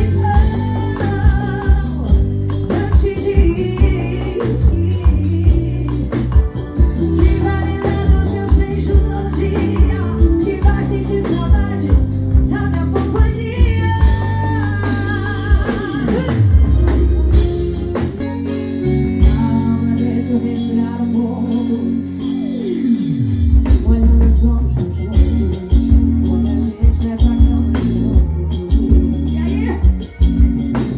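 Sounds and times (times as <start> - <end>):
live band with singing: 0.0 - 30.9.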